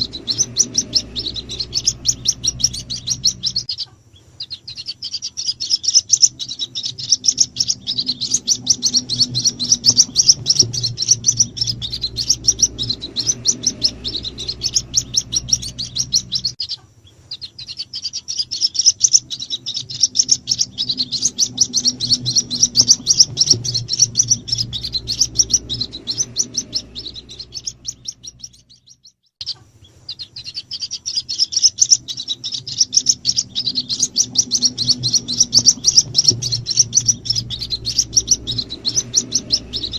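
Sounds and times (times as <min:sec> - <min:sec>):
bird chicks cheeping: 0:00.0 - 0:39.9.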